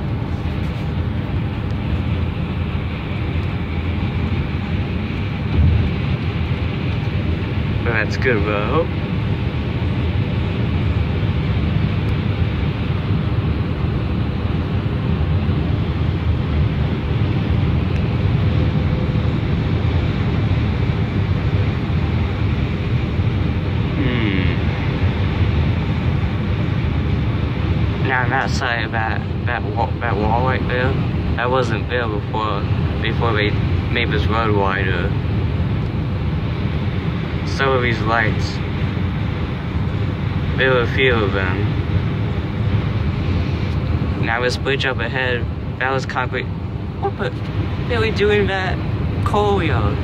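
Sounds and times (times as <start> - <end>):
road and tyre noise in car: 0.0 - 50.0.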